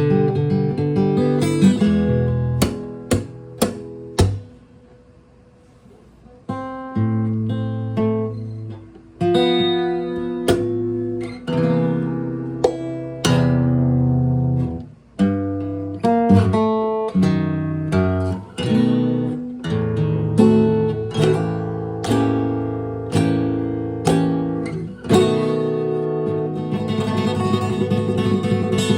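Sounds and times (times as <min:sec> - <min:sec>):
acoustic guitar strummed chords: 0:00.0 - 0:05.1, 0:06.4 - 0:28.9.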